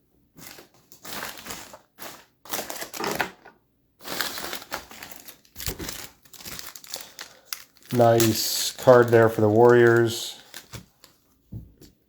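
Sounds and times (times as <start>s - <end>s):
plastic crinkling and rustling: 0.4s - 11.9s.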